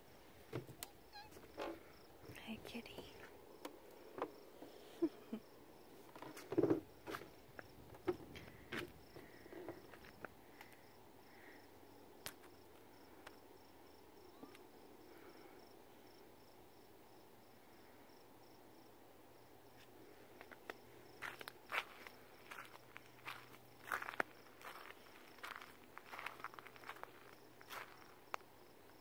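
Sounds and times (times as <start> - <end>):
faint insect chirping: 0.0 - 29.0.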